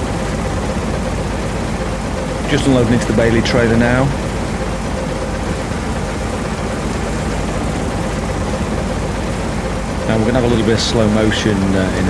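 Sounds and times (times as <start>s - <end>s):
combine harvester engine running: 0.0s - 12.0s
faint steady hum: 0.0s - 12.0s.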